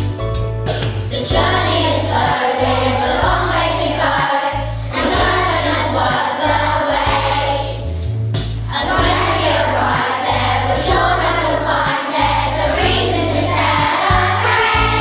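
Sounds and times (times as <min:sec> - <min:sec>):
musical accompaniment with bass: 0:00.0 - 0:15.0
children singing together: 0:01.1 - 0:07.8, 0:08.7 - 0:15.0.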